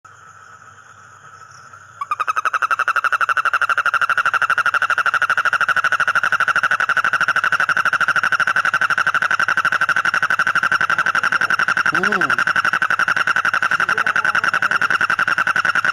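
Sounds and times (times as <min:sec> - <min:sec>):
frog pulsing trill: 0:00.6 - 0:15.9.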